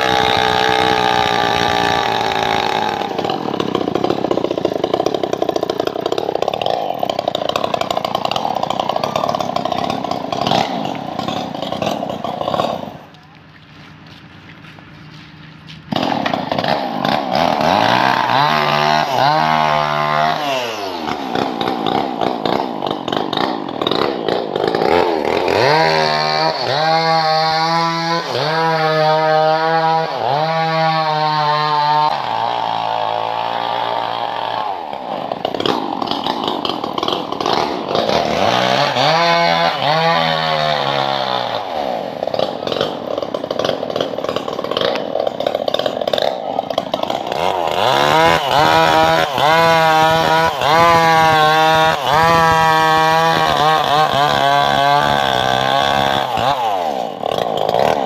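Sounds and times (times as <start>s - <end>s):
engine-driven saw revving: 0.0s - 13.2s, 14.6s - 58.0s.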